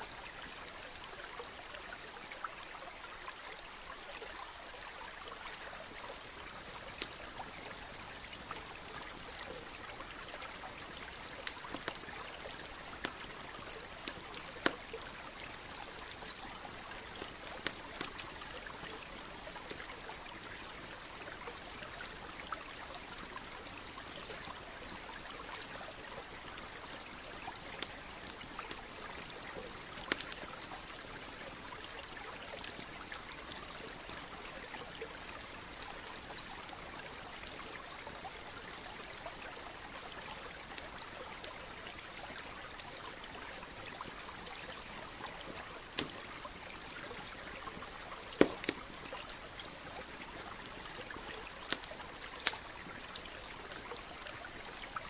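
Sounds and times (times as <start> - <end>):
campfire crackling: 0.0 - 55.0
stream flowing: 0.0 - 55.0.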